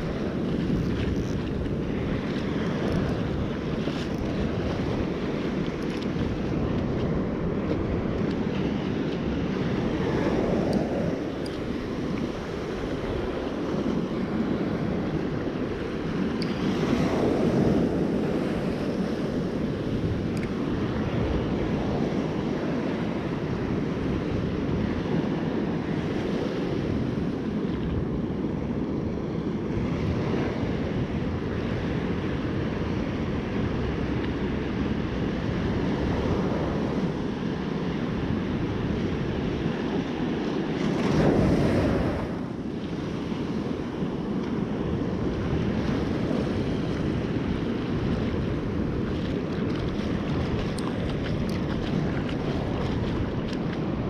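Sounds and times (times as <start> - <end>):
heavy surf breaking on beach: 0.0 - 54.0
wind on microphone: 0.0 - 54.0.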